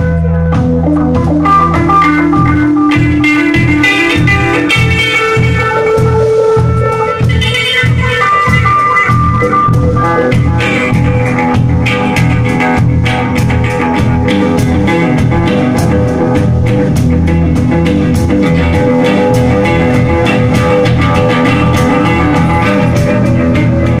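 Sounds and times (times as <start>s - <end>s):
drum kit: 0.0s - 24.0s
electric guitar: 0.0s - 24.0s
second electric stringed instrument: 0.0s - 24.0s.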